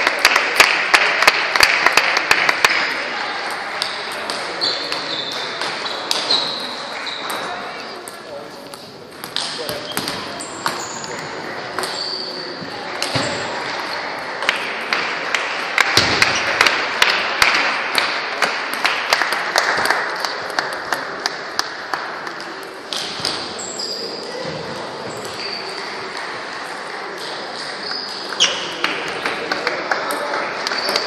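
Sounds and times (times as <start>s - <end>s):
murmur of voices: 0.0s - 31.0s.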